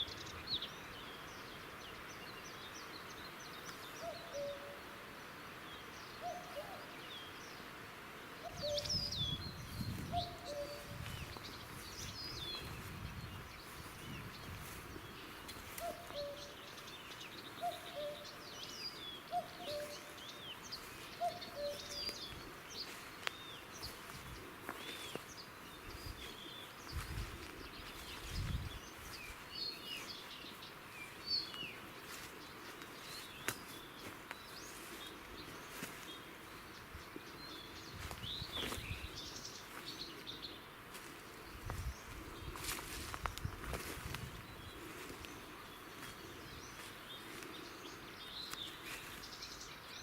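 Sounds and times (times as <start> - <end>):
small birds chirping: 8.4 - 50.0.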